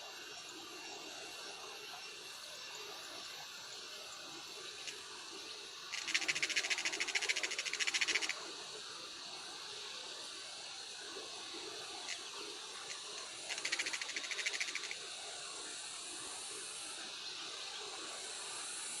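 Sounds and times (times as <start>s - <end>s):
high background hiss: 0.0s - 19.0s.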